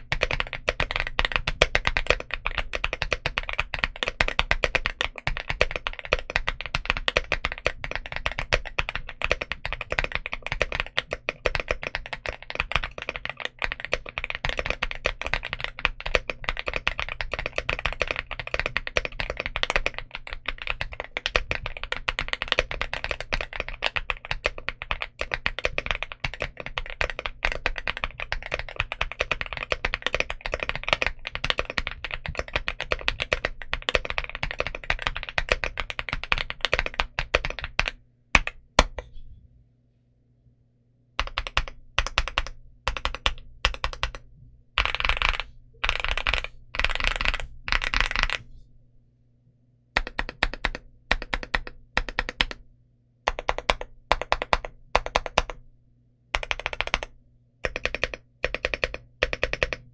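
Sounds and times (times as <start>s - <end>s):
mechanical keyboard typing: 0.0s - 39.0s, 41.2s - 44.2s, 44.8s - 48.4s, 50.0s - 52.6s, 53.3s - 55.6s, 56.4s - 59.9s.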